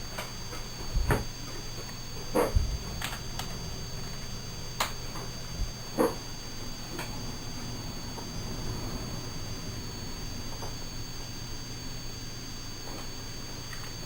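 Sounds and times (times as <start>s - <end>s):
electrical hum with high whine: 0.0s - 14.0s.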